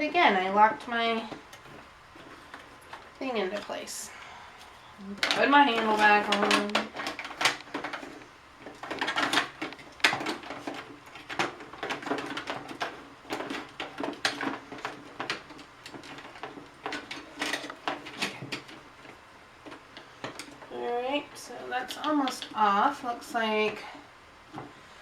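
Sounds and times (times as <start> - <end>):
plastic parts clicking and clattering: 1.1 - 4.0, 5.0 - 23.8.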